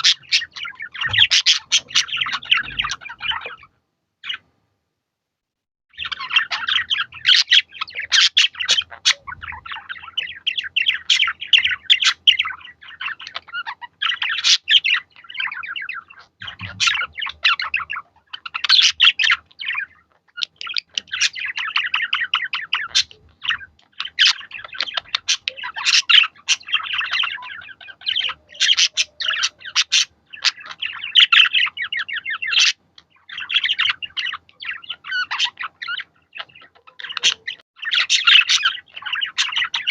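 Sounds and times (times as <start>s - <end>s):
budgerigars chattering: 0.0s - 4.4s, 6.0s - 39.9s.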